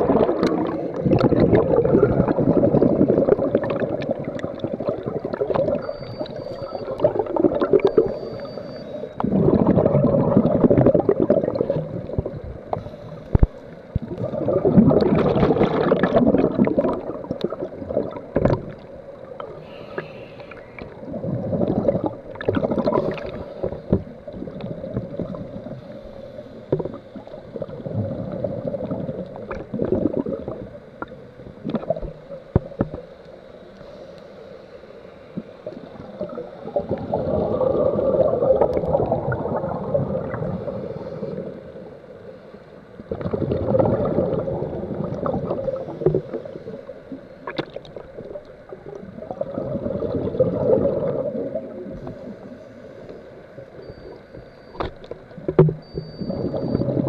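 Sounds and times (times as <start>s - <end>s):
underwater bubbles gurgling: 0.0s - 57.0s.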